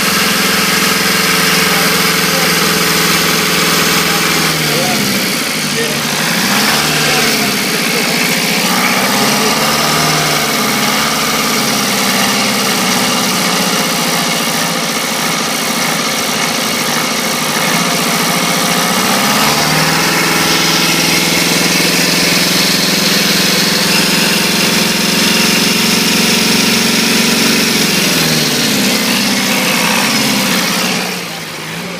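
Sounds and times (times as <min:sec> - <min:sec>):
engine revving: 0:00.0 - 0:31.9.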